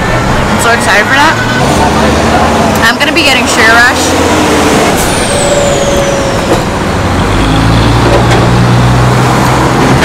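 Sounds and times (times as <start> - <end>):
deep engine drone: 0.0 - 10.0
semi truck passing: 0.0 - 10.0.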